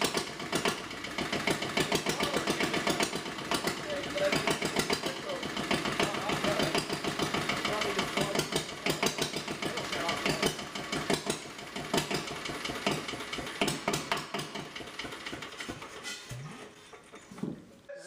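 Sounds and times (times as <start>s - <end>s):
diesel generator knocking: 0.0s - 16.0s.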